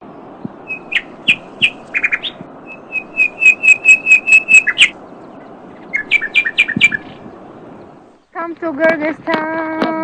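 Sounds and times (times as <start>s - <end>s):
songbird chirping: 0.0s - 10.0s.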